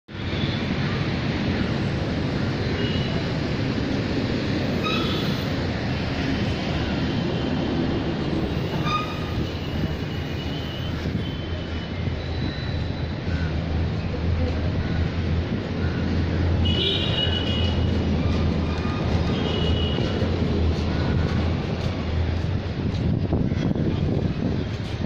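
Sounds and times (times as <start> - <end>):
city background rumble: 0.1 - 25.0.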